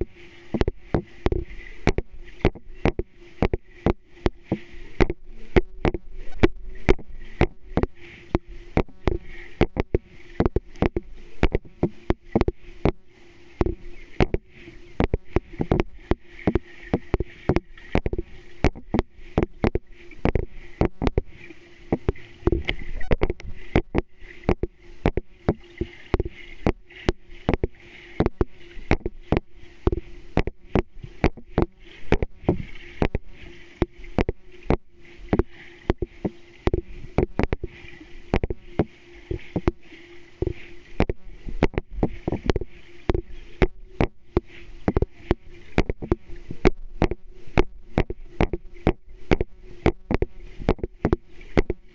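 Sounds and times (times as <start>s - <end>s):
soft hiss: 0.0s - 51.9s
steady low hum: 0.0s - 51.9s
underwater clicks and knocks: 0.0s - 51.9s.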